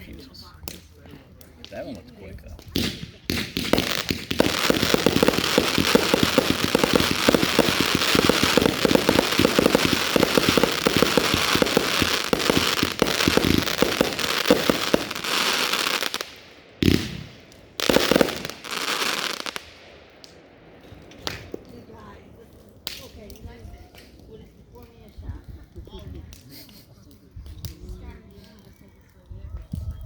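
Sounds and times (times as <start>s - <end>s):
fireworks crackling and banging: 0.6s - 25.1s.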